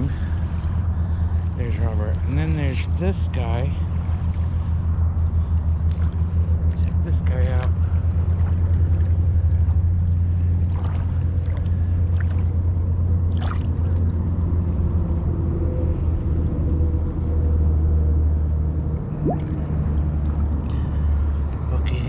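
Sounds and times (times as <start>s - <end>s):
motor droning: 0.0s - 22.0s.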